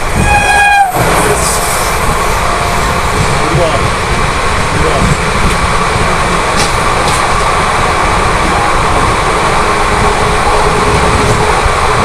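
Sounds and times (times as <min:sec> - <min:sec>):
heavy rumble: 0:00.0 - 0:12.0
train rushing past: 0:00.0 - 0:12.0.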